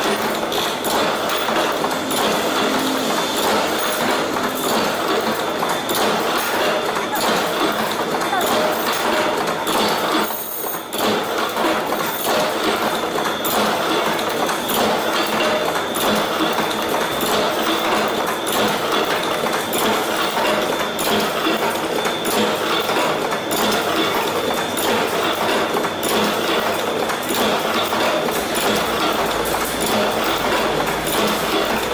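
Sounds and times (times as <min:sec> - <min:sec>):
chain-making machines clacking: 0:00.0 - 0:31.9.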